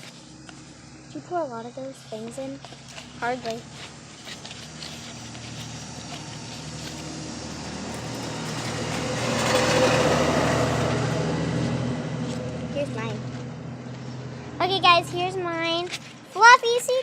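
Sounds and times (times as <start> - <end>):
motor vehicle passing: 0.0 - 16.6.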